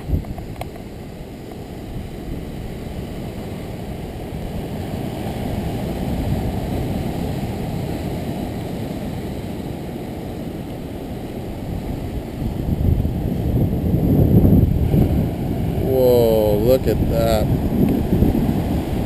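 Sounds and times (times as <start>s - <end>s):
ocean surf breaking over rocks: 0.0s - 19.0s
wind buffeting microphone: 0.0s - 19.0s.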